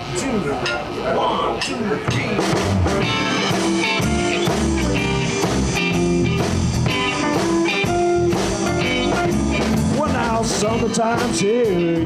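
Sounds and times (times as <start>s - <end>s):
blues band playing shuffle: 0.0s - 12.0s.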